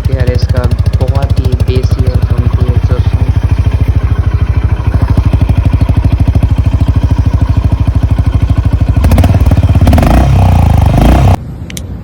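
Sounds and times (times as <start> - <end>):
louder engine: 0.0 - 11.4
motorcycle engine idling: 0.0 - 11.4.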